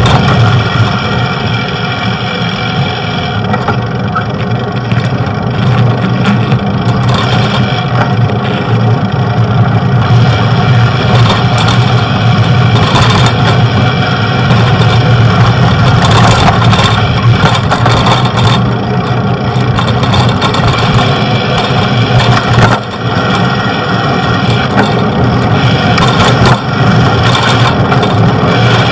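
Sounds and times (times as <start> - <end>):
bicycle road noise: 0.0 - 28.9
motor traffic passing: 0.0 - 28.9.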